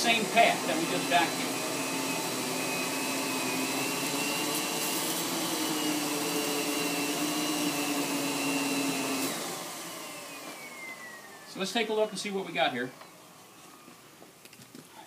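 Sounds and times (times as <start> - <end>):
vacuum cleaner motor whine: 0.0 - 14.2.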